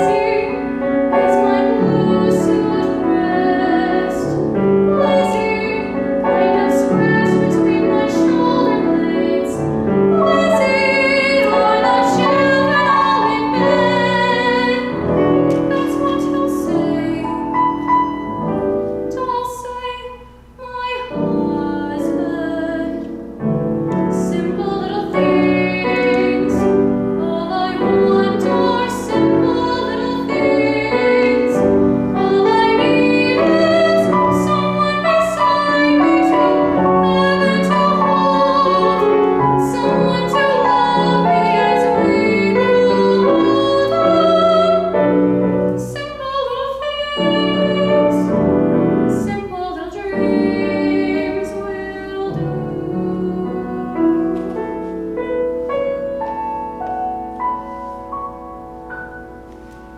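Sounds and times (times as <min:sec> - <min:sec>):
woman singing operatically: 0:00.0 - 0:17.8, 0:19.1 - 0:23.1, 0:24.0 - 0:45.2, 0:45.8 - 0:48.4, 0:49.1 - 0:54.3
grand piano: 0:00.0 - 0:59.9.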